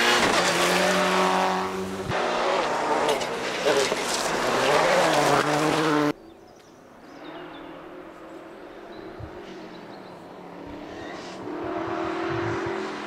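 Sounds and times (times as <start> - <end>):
rally car engine passing close: 0.0 - 6.1, 7.2 - 13.0
distant rally car engine: 0.0 - 6.2, 7.0 - 13.0.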